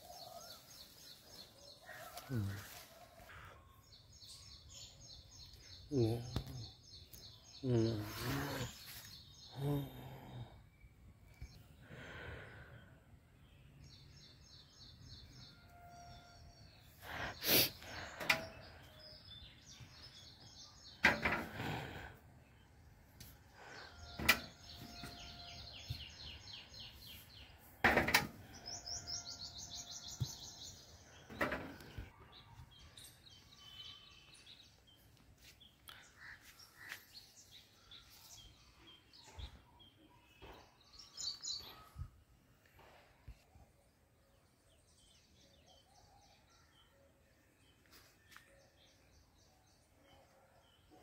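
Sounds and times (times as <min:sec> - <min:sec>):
birds chirping and trilling: 0:00.0 - 0:51.0.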